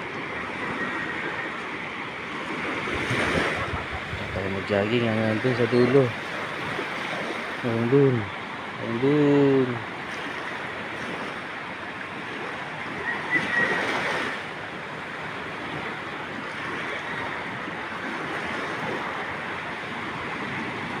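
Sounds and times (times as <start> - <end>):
seawater rushing: 0.0 - 21.0
wind: 0.0 - 21.0.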